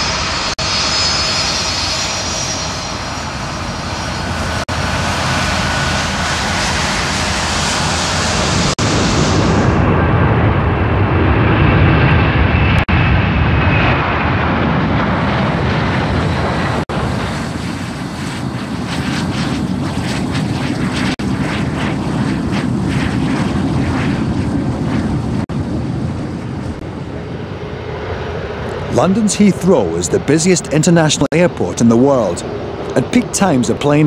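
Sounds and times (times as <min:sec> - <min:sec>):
airliner taxiing jet noise: 0:00.0 - 0:34.0
jet engines at takeoff power: 0:00.0 - 0:34.0.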